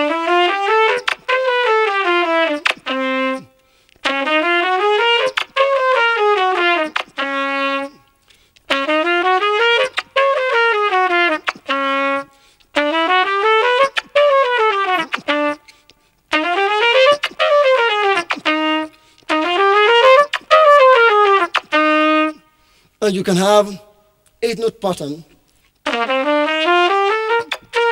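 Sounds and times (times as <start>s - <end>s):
solo trumpet playing: 0.0s - 8.1s, 8.7s - 22.8s, 25.8s - 27.9s.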